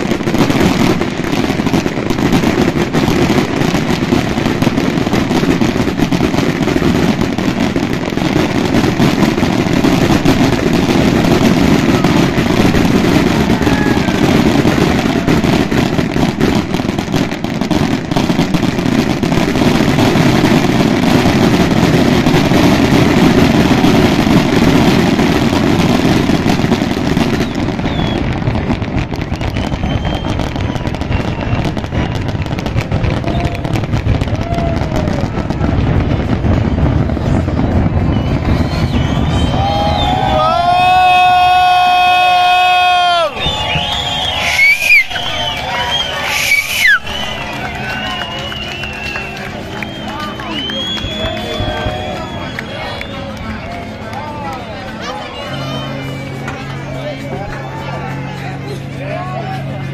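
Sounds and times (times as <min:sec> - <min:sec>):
fireworks bangs rumbling: 0:00.0 - 0:57.5
fireworks crackling: 0:00.0 - 0:59.9.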